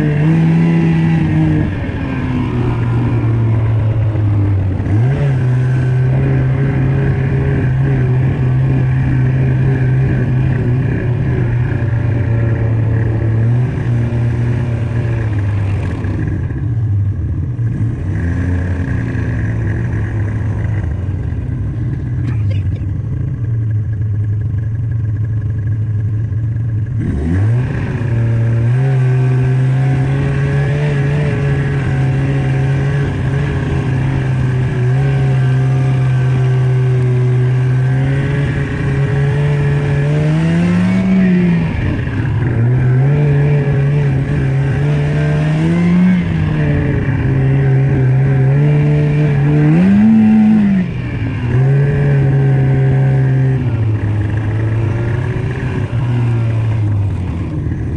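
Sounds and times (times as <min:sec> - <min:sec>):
snowmobile engine revving: 0:00.0 - 0:16.6, 0:17.5 - 0:21.7, 0:26.8 - 0:57.9.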